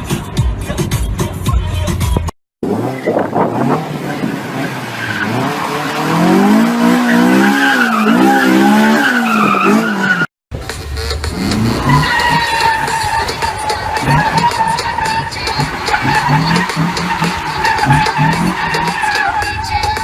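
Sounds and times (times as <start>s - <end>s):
tyres skidding and squealing: 0.7s - 20.0s
car engine revving high: 2.6s - 10.3s, 11.0s - 19.7s.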